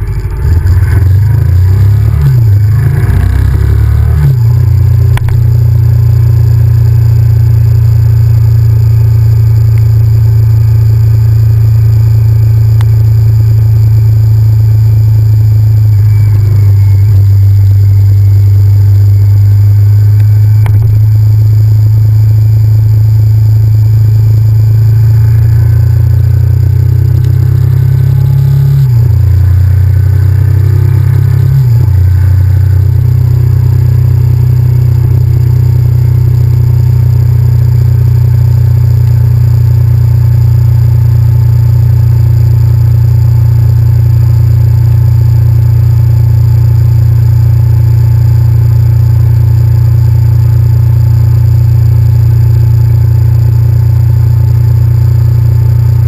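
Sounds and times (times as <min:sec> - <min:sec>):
motorcycle engine running loud and low: 0:00.0 - 0:56.0.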